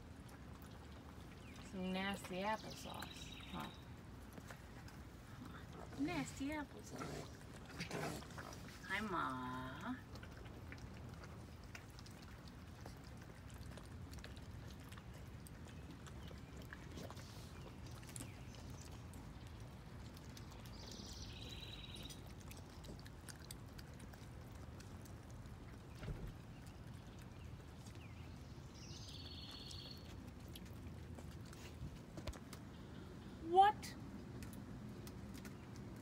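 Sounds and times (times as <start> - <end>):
wet lapping and smacking: 0.0 - 36.0.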